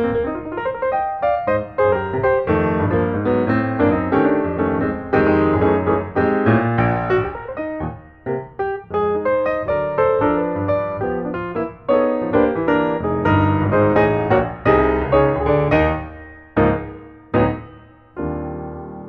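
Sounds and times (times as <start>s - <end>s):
lively piano music: 0.0s - 19.0s.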